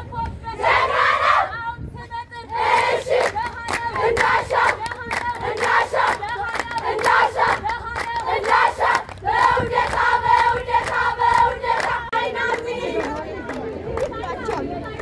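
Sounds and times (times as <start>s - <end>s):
girls singing together: 0.1s - 15.0s
rhythmic hand-clapping: 2.4s - 15.0s.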